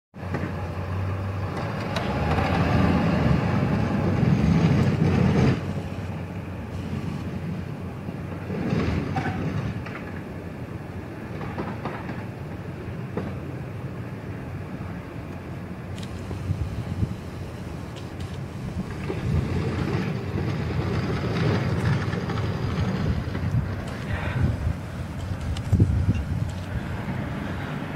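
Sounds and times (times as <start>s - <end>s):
snowplow truck engine running: 0.2s - 27.9s.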